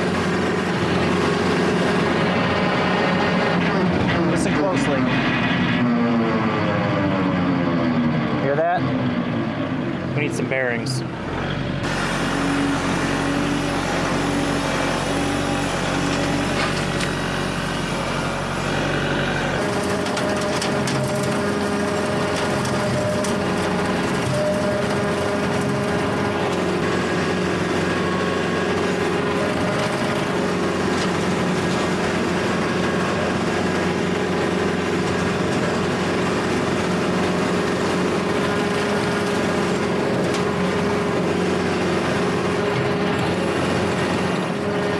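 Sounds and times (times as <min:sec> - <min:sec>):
tractor machine drone: 0:00.0 - 0:44.9.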